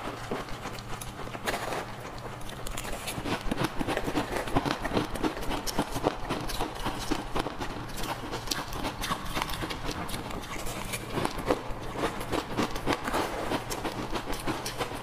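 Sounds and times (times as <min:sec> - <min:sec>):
chewing ice crunches: 0:00.0 - 0:15.0.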